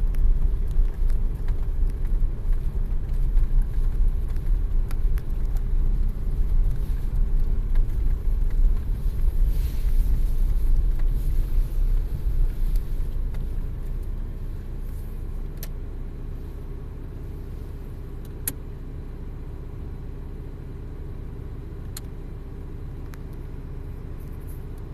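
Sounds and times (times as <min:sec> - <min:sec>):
car engine and road noise: 0:00.0 - 0:24.9.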